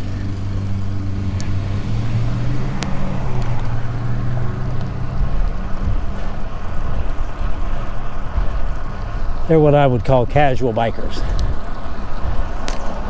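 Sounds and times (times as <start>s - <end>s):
low rumble: 0.0s - 13.0s
vehicle engine hum passing: 0.0s - 13.0s.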